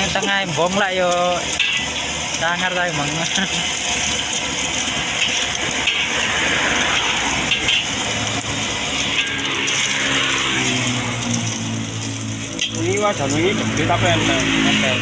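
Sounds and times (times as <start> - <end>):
egg sizzling in oil: 0.0 - 15.0
metal spatula scraping wok: 1.4 - 2.4, 3.0 - 15.0.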